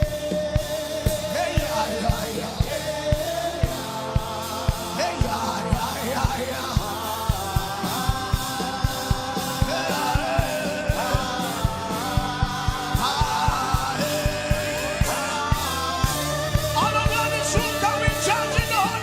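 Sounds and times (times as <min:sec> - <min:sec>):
fast drum beat: 0:00.0 - 0:19.0
person singing: 0:00.0 - 0:19.0.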